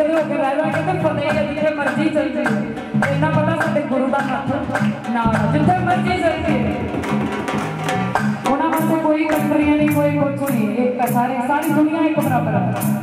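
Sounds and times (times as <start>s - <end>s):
woman singing into microphone: 0.0s - 7.0s, 8.4s - 13.0s
music with quick drum beat: 0.0s - 13.0s.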